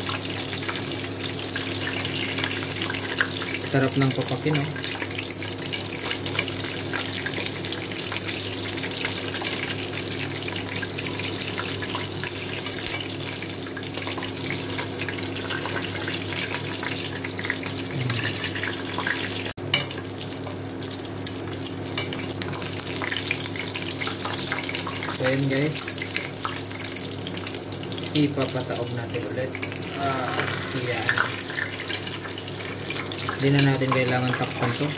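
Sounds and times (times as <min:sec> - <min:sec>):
chicken frying in hot oil: 0:00.0 - 0:34.9.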